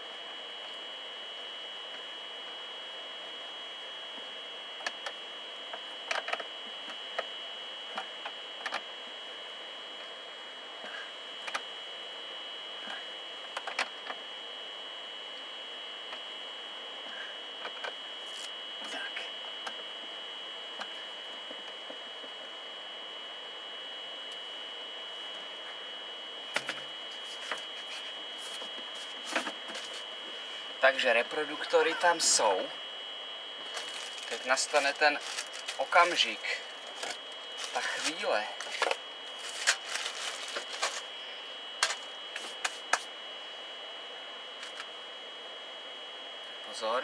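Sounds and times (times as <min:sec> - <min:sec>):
high steady whine: 0:00.0 - 0:47.0.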